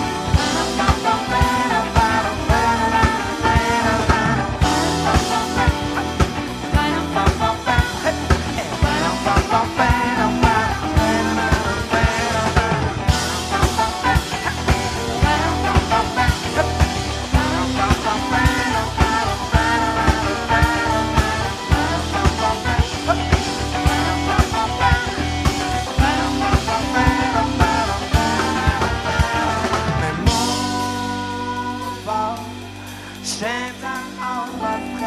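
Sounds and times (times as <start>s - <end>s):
bass guitar: 0.0s - 35.0s
drum kit beat: 0.0s - 35.0s
electric guitar: 0.0s - 35.0s
keyboard: 0.0s - 35.0s
man singing: 0.0s - 35.0s
trumpet and saxophone horns: 0.0s - 35.0s.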